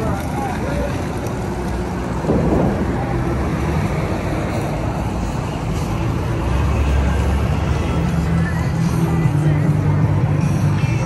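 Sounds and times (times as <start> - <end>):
low engine rumble: 0.0 - 11.0
street traffic: 0.0 - 11.0.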